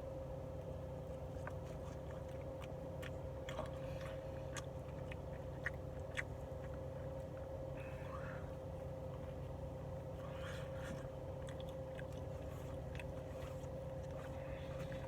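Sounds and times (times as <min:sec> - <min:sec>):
steady electrical hum: 0:00.0 - 0:15.0
person chewing food: 0:01.1 - 0:15.0.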